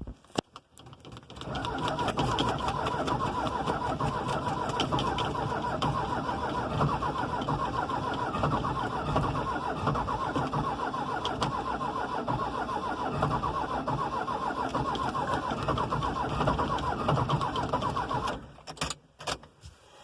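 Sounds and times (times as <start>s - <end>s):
starter motor cranking diesel engine: 0.8s - 18.6s.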